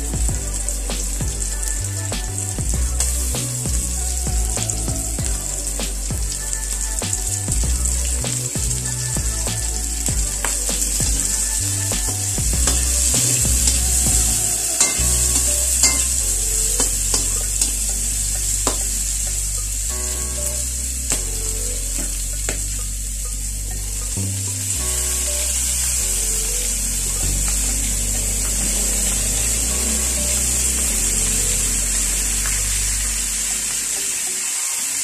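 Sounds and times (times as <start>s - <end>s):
food sizzling in hot oil: 0.4s - 23.6s, 24.7s - 35.0s.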